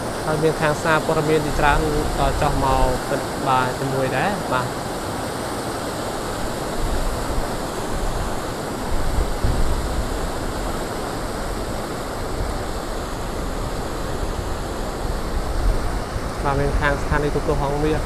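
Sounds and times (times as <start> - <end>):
wind buffeting microphone: 0.0 - 4.6, 6.0 - 18.0
steady rushing noise: 0.0 - 18.0.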